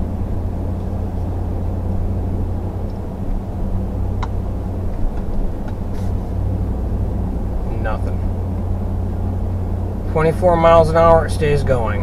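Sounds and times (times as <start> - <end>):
pickup truck in-cab engine drone: 0.0 - 12.0.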